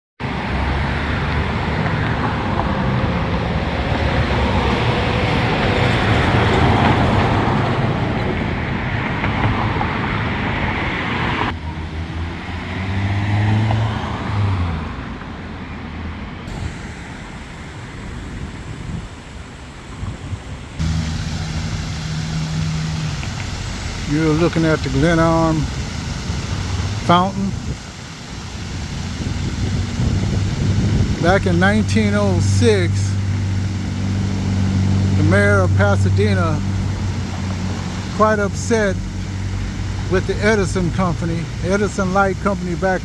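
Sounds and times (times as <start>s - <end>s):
passing vehicle engines humming: 0.2s - 43.0s
road traffic noise: 0.2s - 43.0s.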